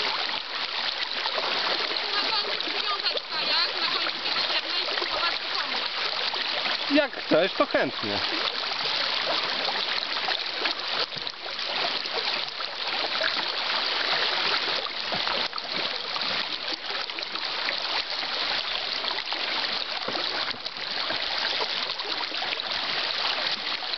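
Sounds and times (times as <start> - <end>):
river water rushing over stones: 0.0 - 23.9.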